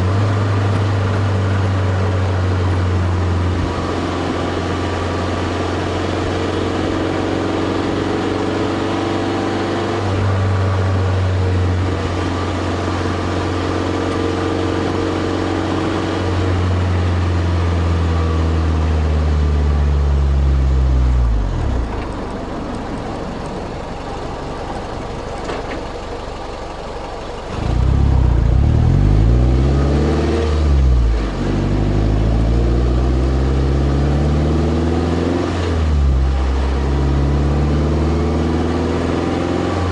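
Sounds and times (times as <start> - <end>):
car exhaust engine note: 0.0 - 35.3.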